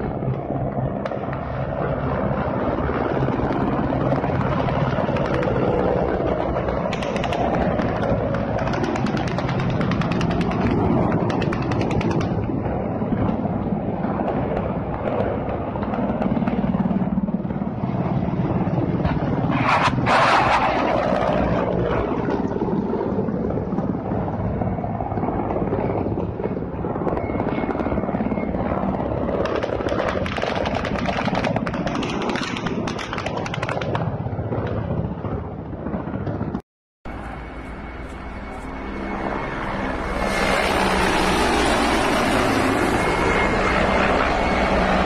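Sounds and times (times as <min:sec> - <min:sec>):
helicopter rotor and turbine noise: 0:00.0 - 0:45.0.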